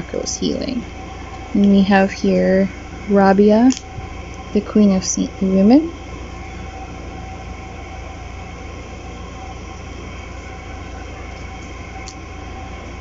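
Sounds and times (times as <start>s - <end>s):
room background rumble and hiss: 0.0s - 13.0s.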